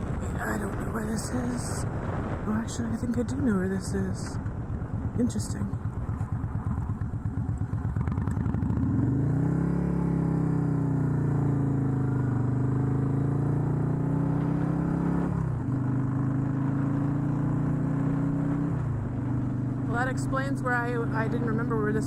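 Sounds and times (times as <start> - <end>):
motorcycle engine revving: 3.9 - 22.0.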